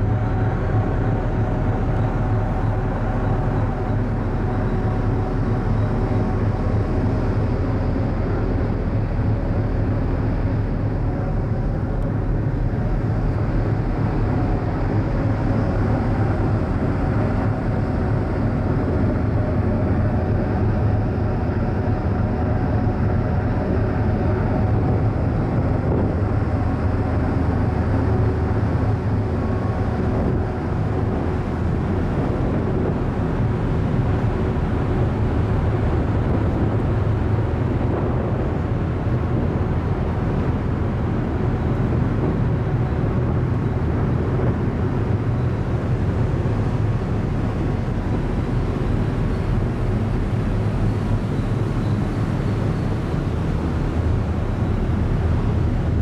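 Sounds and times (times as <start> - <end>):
ship machinery drone: 0.0 - 56.0.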